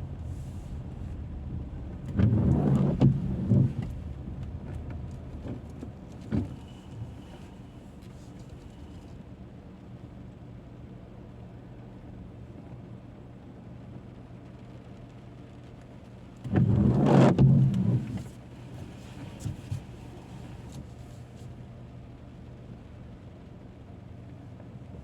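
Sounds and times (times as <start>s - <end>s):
car driving hum: 0.0s - 10.9s, 14.8s - 25.0s.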